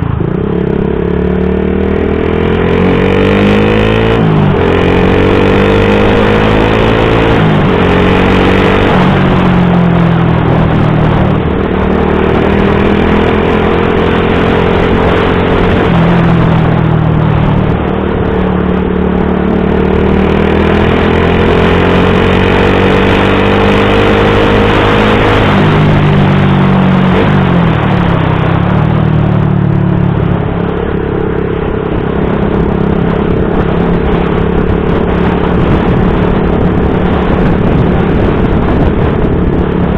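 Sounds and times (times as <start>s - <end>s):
motorcycle engine: 0.0s - 39.9s
wind noise: 0.0s - 39.9s.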